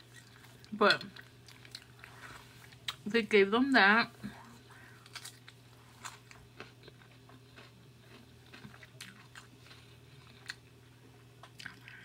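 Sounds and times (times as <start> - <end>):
close-miked chewing: 0.0 - 3.0, 4.3 - 10.8, 11.4 - 12.0.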